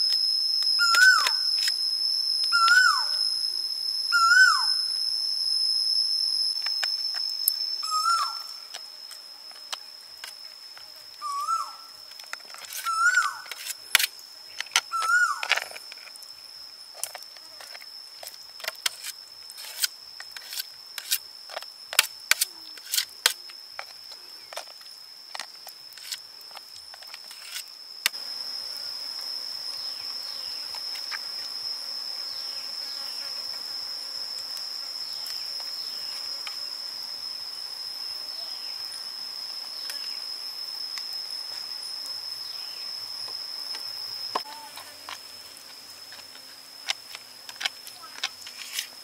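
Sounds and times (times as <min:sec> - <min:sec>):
background hiss: 0:00.0 - 0:49.0
insects trilling: 0:00.0 - 0:49.0.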